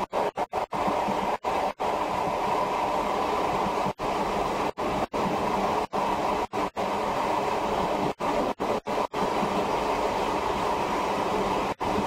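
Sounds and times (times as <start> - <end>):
electric train running: 0.0 - 12.0.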